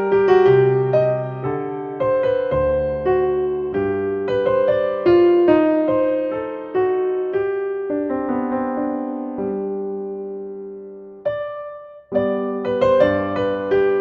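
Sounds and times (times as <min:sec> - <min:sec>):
slow solo piano music: 0:00.0 - 0:14.0.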